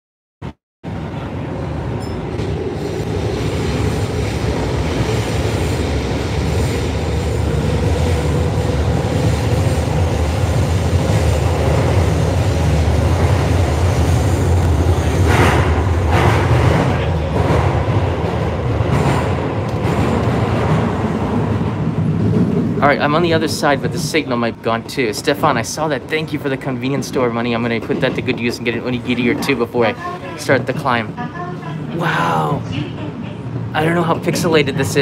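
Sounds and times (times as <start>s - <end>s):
faint train whine: 0.9s - 18.8s, 21.0s - 35.0s
loud train clatters: 0.9s - 30.0s
train wheels rumbling on rail: 0.9s - 35.0s.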